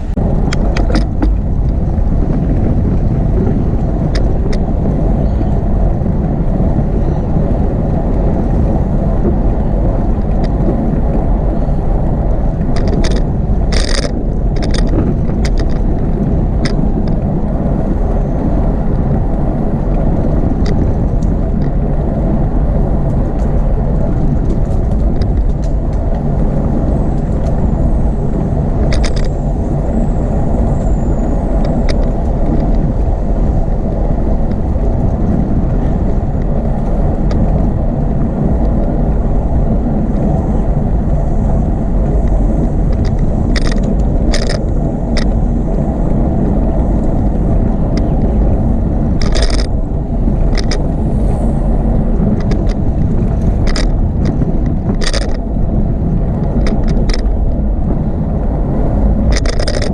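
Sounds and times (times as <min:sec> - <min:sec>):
bicycle clicks and rattles: 0:00.0 - 0:59.9
bicycle tyres rolling on pavement: 0:00.0 - 0:59.9
wind noise while cycling: 0:00.0 - 0:59.9.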